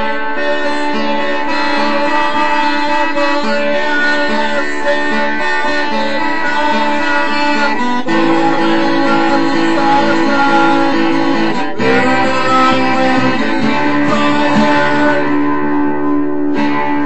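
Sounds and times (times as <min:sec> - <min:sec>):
guitar chords strummed: 0:00.0 - 0:17.0.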